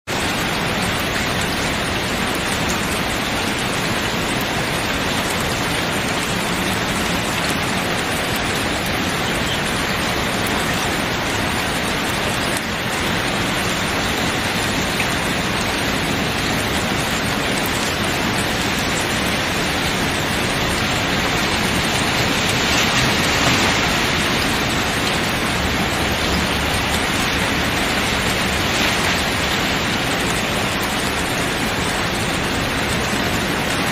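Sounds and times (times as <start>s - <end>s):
rain on tent canvas: 0.1s - 33.9s.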